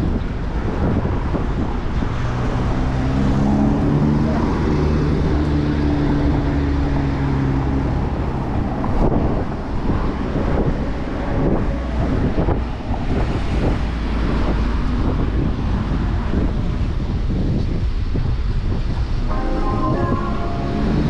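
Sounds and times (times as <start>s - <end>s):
wind buffeting microphone: 0.0s - 19.3s
vehicle engine hum: 0.0s - 21.0s.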